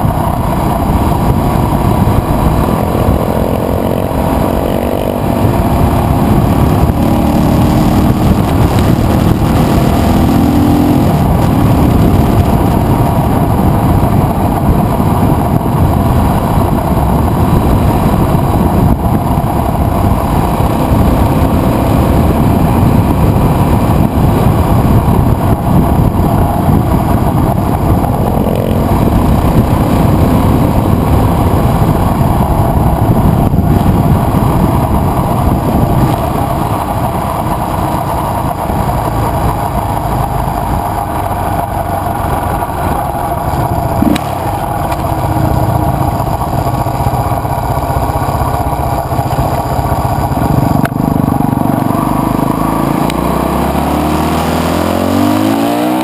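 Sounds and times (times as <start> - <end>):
motorcycle engine drone: 0.0 - 56.0
road noise: 0.0 - 56.0
wind noise: 0.0 - 56.0.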